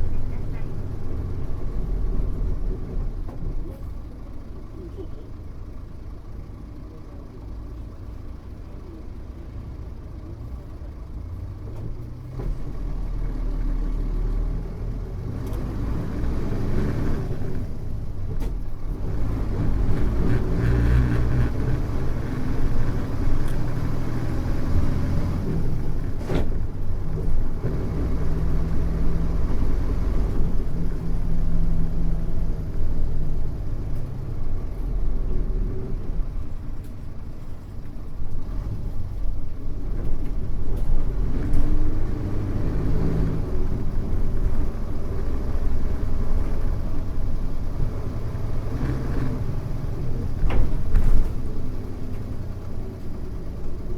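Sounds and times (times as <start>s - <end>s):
bus diesel engine revving: 0.0s - 53.9s.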